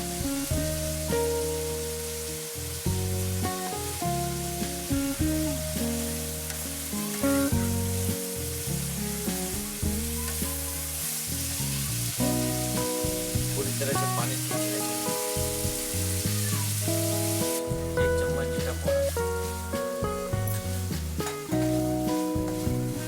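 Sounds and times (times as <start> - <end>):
food sizzling in hot oil: 0.0 - 23.0
instrumental music: 0.0 - 23.0.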